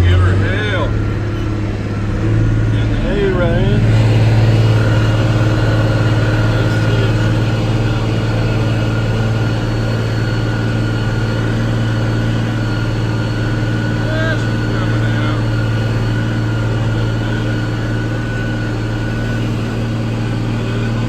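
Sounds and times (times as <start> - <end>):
tractor engine droning: 0.0 - 21.0.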